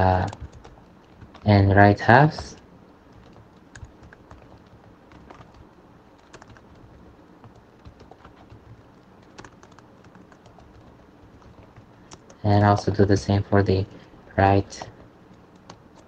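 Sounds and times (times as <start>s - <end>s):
computer keyboard typing: 0.0s - 13.3s, 14.6s - 16.0s.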